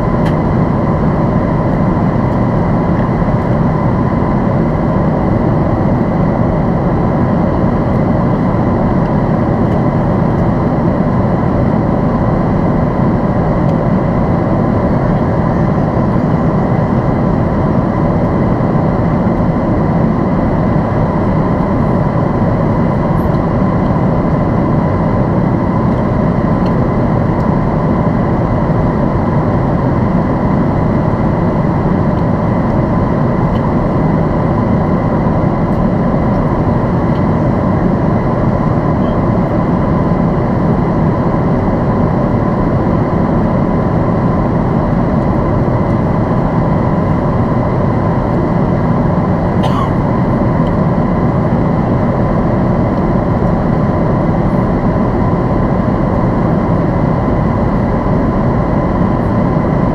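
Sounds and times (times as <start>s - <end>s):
airliner cabin engine roar: 0.0s - 59.9s
thin steady whine: 0.0s - 59.9s.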